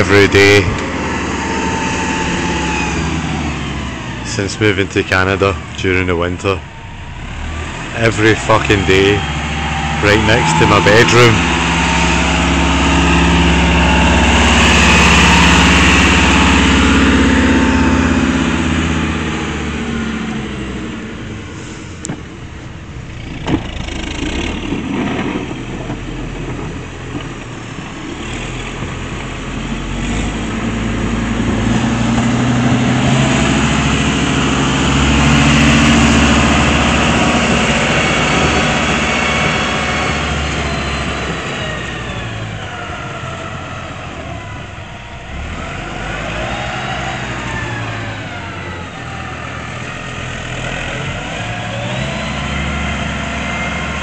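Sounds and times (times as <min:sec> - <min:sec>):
snow-clearing machine engine: 0:00.0 - 0:54.0.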